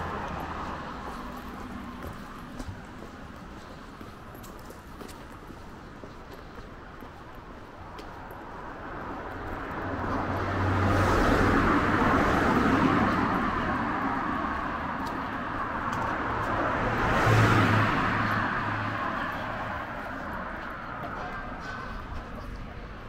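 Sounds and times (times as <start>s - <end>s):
cars driving past: 0.0s - 6.0s, 7.8s - 23.0s.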